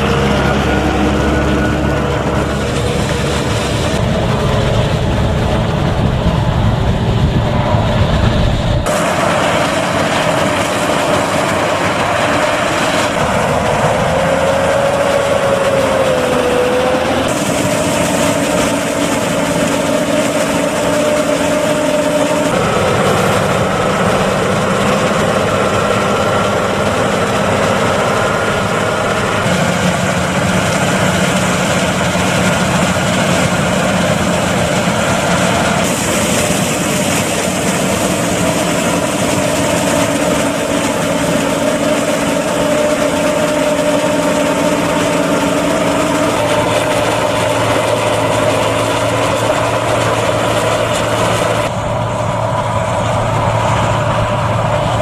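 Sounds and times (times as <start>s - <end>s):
combine harvester running: 0.0s - 55.0s
tractors driving a corn mill: 0.0s - 55.0s.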